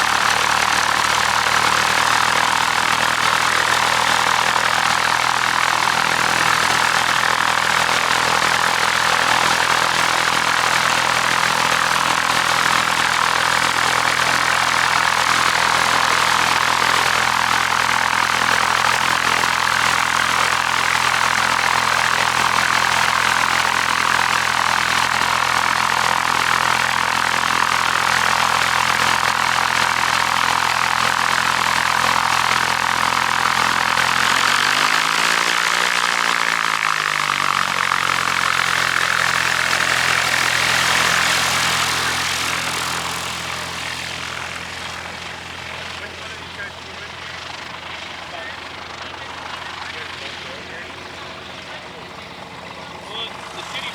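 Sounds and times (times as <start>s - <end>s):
propeller airplane engine passing: 0.0s - 53.9s.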